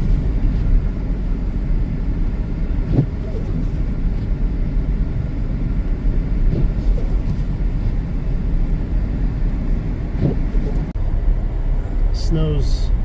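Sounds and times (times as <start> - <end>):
car engine: 0.0 - 13.0
tyre and road noise: 0.0 - 13.0.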